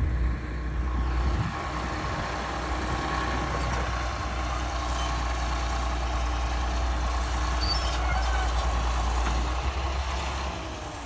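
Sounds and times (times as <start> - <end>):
bulldozer diesel engine rumbling: 0.0 - 11.0.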